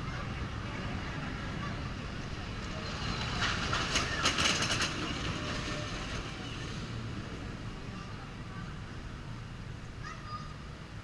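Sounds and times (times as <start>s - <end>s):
ride train rumbling on track: 0.0s - 11.0s.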